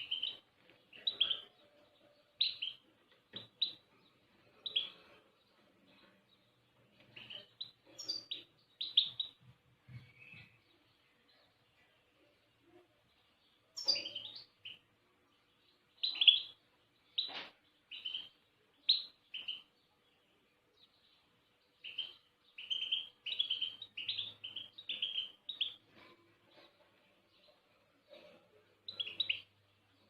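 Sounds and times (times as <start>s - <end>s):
small cage bird chirping: 0.0s - 30.0s.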